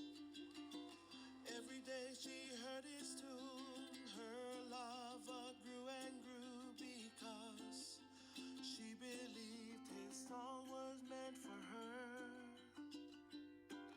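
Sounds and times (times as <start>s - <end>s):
person singing with vibrato: 0.0s - 13.3s
plucked strings: 0.0s - 13.9s.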